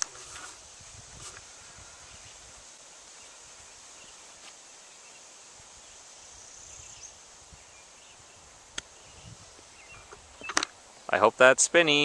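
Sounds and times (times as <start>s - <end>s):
high insect drone: 0.0s - 11.6s.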